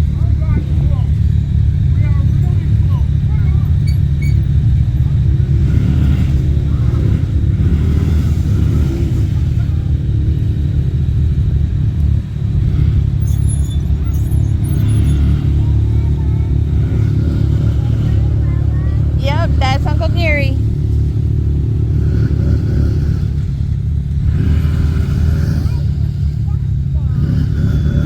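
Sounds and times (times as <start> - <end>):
atv engine droning: 0.0 - 28.0.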